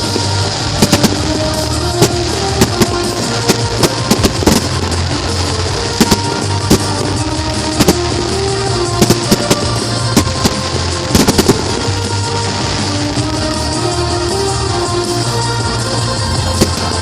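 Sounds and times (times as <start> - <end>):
fireworks bangs and crackles: 0.0 - 17.0
loud music: 0.0 - 17.0.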